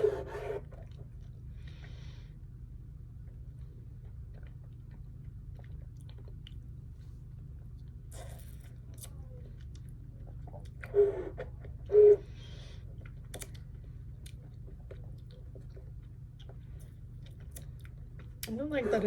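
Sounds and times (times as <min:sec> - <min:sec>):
chewing and crunching food: 0:00.6 - 0:02.0, 0:02.9 - 0:11.9, 0:12.6 - 0:18.9.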